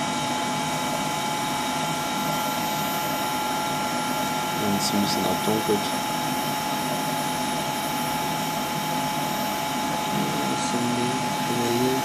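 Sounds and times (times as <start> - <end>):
machine whirring hum: 0.0 - 12.0
high whine: 1.5 - 12.0.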